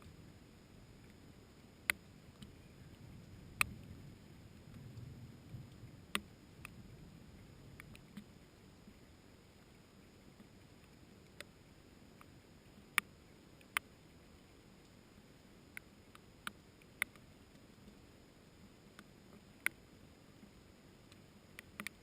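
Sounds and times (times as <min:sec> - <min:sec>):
faint low storm rumble: 0:00.0 - 0:21.8
raindrops striking leaves: 0:00.0 - 0:22.0.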